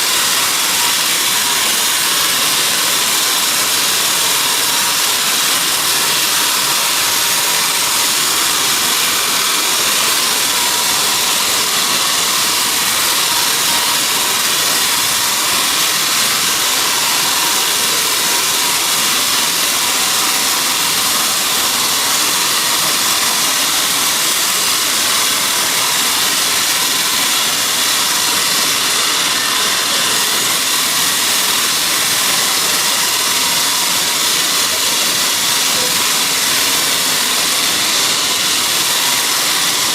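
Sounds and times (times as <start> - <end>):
steady machine hiss: 0.0 - 39.9.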